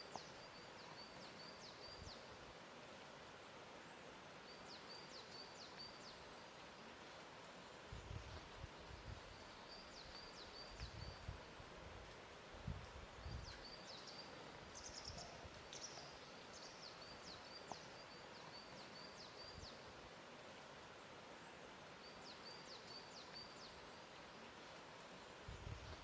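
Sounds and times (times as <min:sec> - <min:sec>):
soft even hiss: 0:00.0 - 0:26.0.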